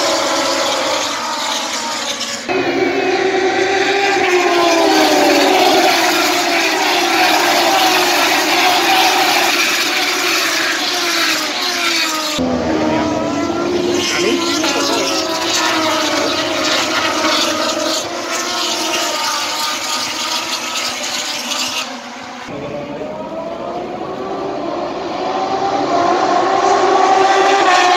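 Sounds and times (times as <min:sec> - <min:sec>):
racing motorcycles at high revs: 0:00.0 - 0:27.9.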